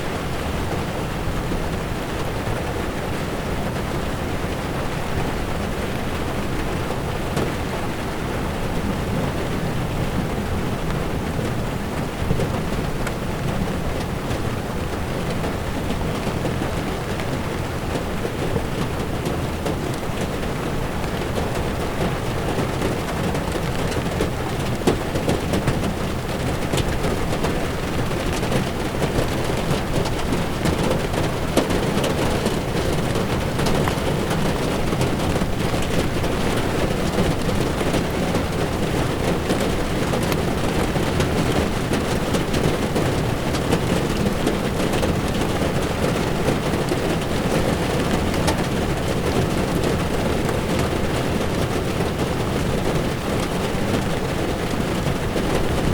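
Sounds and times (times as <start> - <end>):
rain pattering on car: 0.0 - 55.9
tyres on wet road: 0.0 - 55.9.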